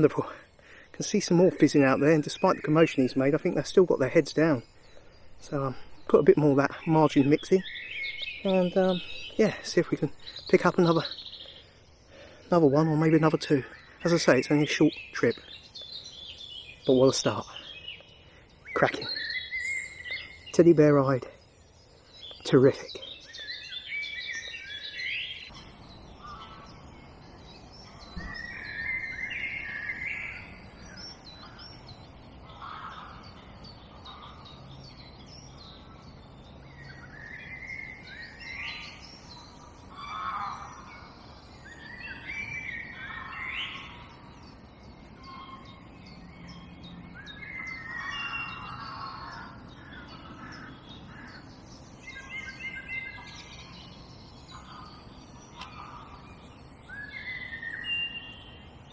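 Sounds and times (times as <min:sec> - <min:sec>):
songbirds chirping: 0:00.0 - 0:58.9.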